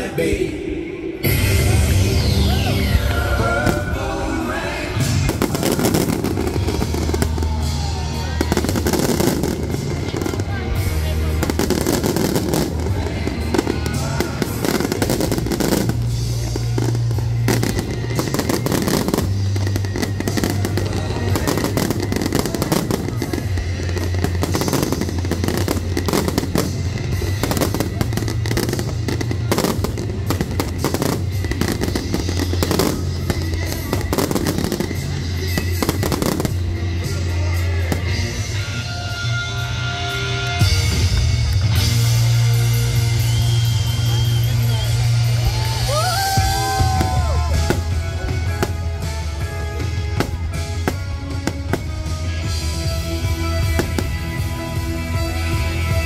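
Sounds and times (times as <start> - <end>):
loud music with bass line: 0.0 - 56.0
fireworks bursting: 1.3 - 39.5, 40.6 - 56.0.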